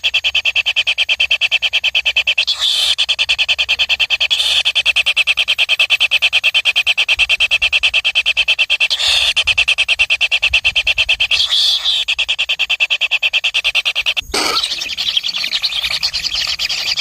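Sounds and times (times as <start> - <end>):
baby birds begging calls: 0.0 - 17.0.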